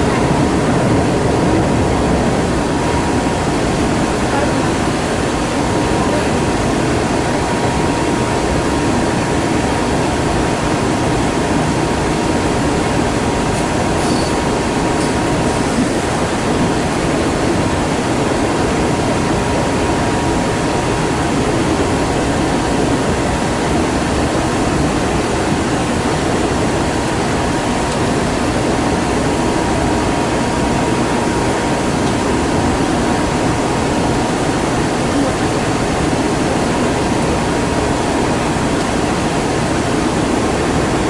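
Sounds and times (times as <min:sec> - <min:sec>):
faint steady whine: 0:00.0 - 0:41.0
train wheels rumbling on rails: 0:00.0 - 0:41.0.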